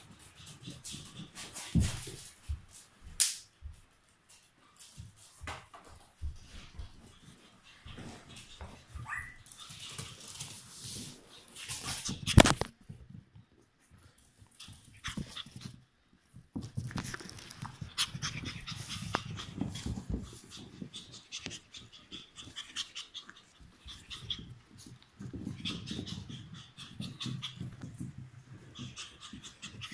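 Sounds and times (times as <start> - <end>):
paws clicking on floor: 0.0 - 29.9
small dogs breathing and scuffling: 0.0 - 29.9.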